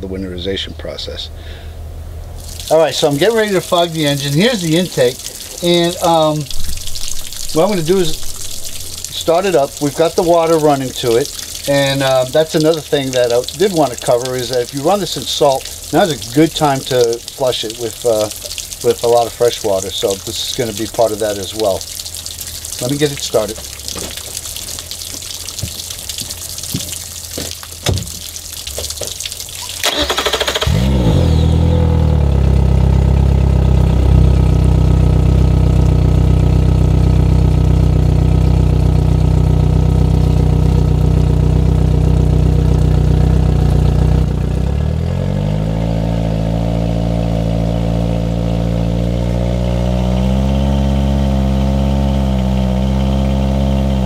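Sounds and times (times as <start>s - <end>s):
outboard engine cranking and running: 2.3s - 54.0s
water hissing from hose: 2.4s - 54.0s.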